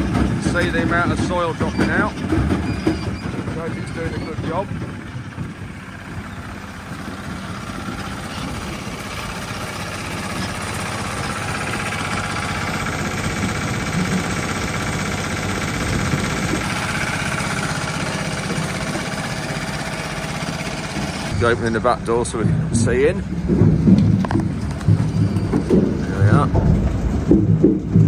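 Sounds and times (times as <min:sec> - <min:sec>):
machine engine running: 0:00.0 - 0:28.0.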